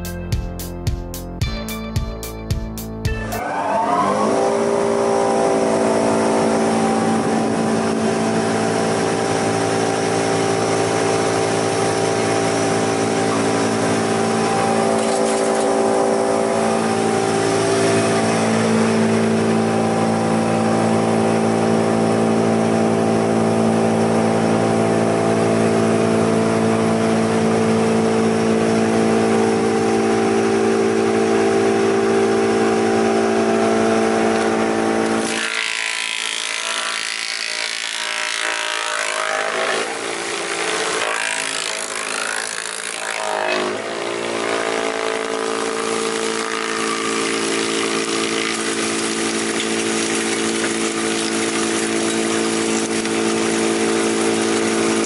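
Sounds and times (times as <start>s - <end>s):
wood chipper humming: 2.9s - 55.0s.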